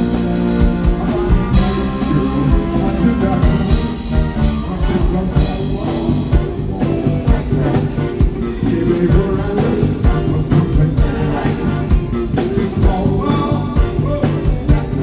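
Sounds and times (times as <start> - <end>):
drum beat: 0.0 - 15.0
electric guitar: 0.0 - 15.0
live band playing soul music: 0.0 - 15.0
person singing: 0.0 - 15.0.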